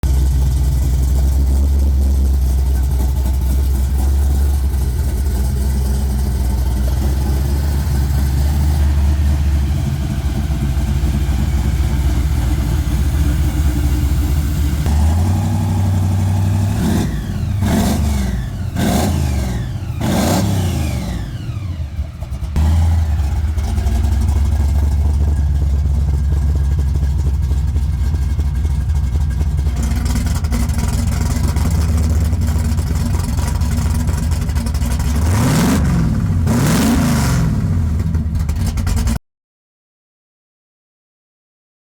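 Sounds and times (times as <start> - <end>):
engine revving: 0.0 - 27.2, 29.7 - 39.2
car engine idling: 0.0 - 39.2.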